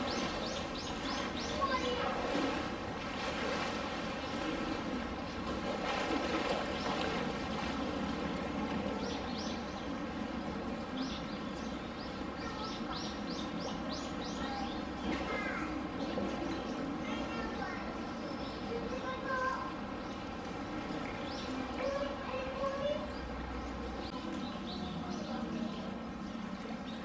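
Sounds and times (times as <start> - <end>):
outdoor background murmur: 0.0 - 27.0.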